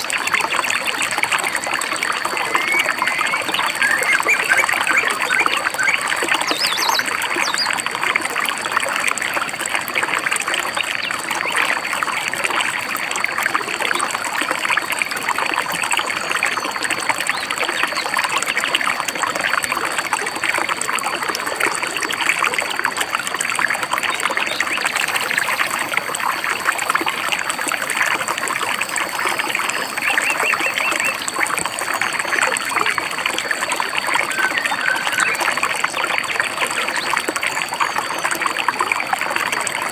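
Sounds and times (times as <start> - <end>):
shallow stream babbling: 0.0 - 39.9.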